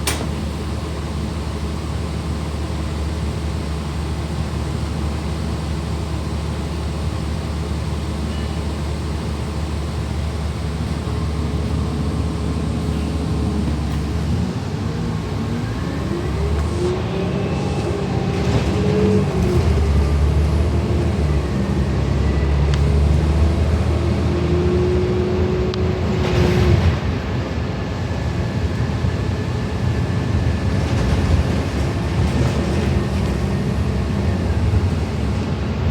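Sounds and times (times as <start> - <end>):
bus drivetrain whine: 0.0 - 35.9
bus engine rumble: 0.0 - 35.9.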